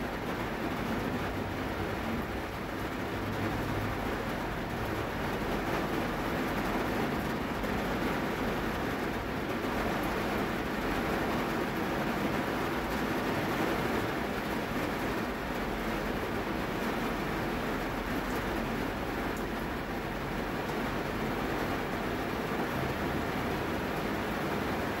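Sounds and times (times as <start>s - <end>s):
heavy rain on a car: 0.0s - 25.0s.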